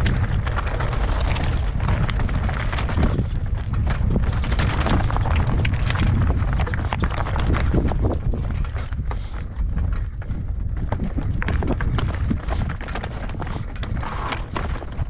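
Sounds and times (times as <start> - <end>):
bike clicks and knocks: 0.0 - 15.0
wind buffeting microphone: 0.0 - 15.0.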